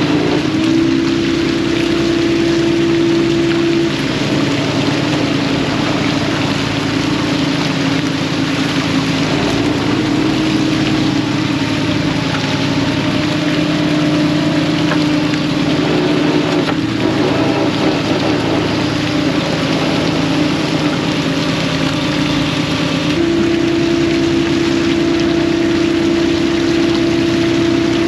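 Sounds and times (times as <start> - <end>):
boat engine droning: 0.0 - 28.0
water rushing: 0.0 - 28.0.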